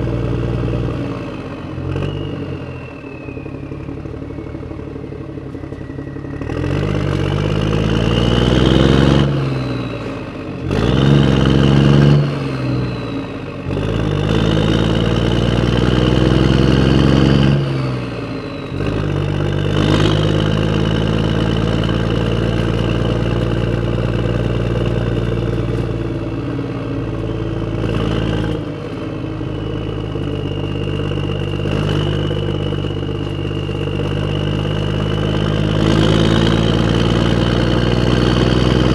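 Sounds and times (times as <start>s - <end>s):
tractor engine revving: 0.0s - 38.9s.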